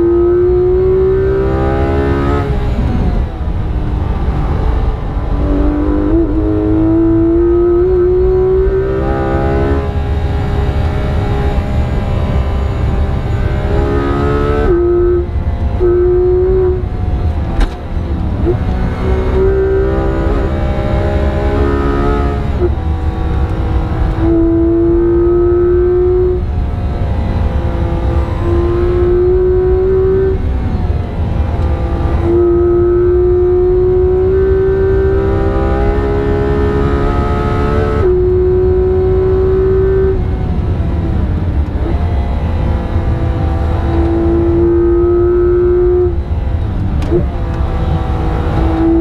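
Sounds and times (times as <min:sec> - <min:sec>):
car engine at full throttle: 0:00.0 - 0:49.0
road and tyre noise: 0:00.0 - 0:49.0.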